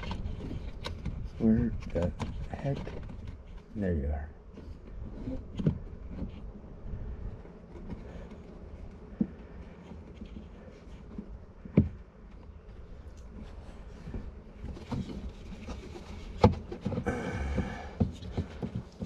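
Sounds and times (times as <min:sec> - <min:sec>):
hands knocking and scraping plastic: 0:00.0 - 0:03.8, 0:04.6 - 0:19.0.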